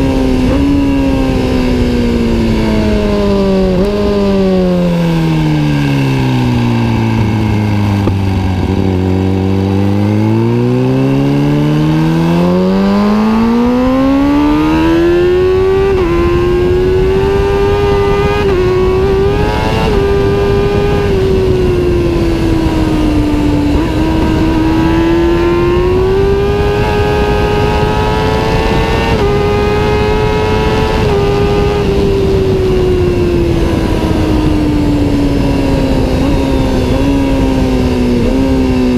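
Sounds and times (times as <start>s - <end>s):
loud motorcycle engine: 0.0s - 38.9s.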